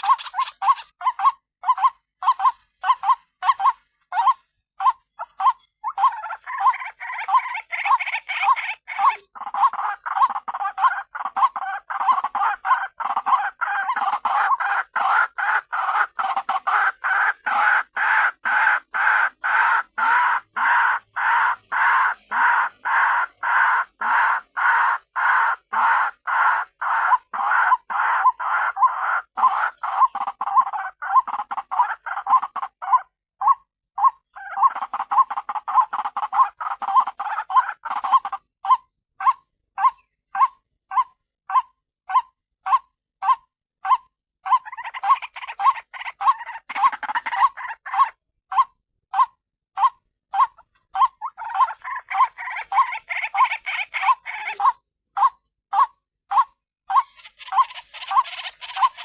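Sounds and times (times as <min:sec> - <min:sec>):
bird croaking call: 0:00.0 - 0:59.0.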